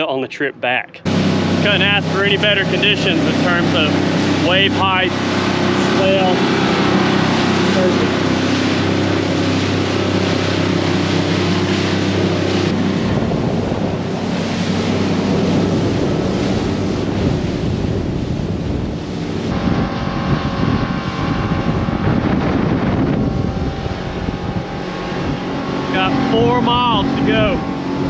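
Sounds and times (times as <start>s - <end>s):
boat engine hum: 0.0s - 28.0s
wind rushing over microphone: 1.0s - 28.0s
water hissing off hull: 1.1s - 28.0s.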